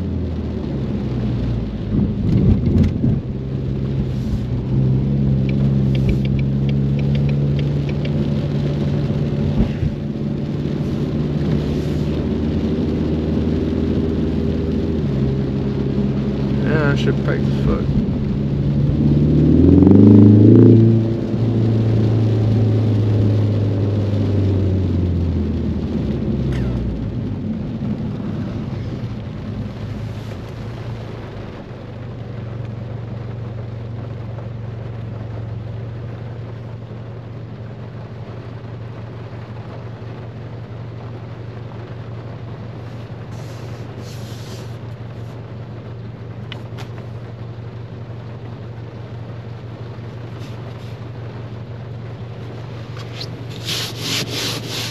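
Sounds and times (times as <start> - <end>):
car engine accelerating: 0.0 - 54.9
rain hiss on wet road: 0.0 - 54.9.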